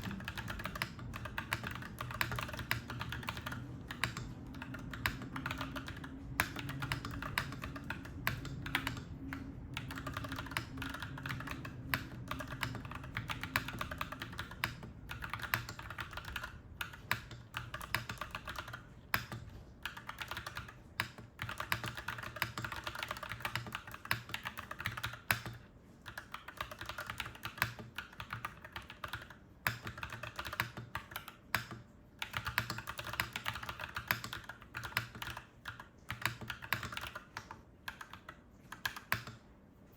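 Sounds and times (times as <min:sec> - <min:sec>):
mechanical keyboard typing: 0:00.0 - 0:39.5.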